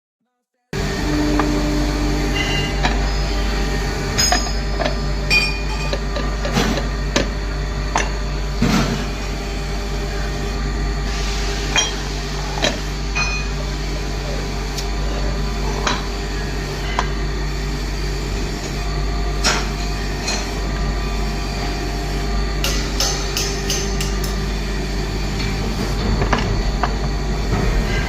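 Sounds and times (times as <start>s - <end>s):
steady hum: 0.8s - 28.0s.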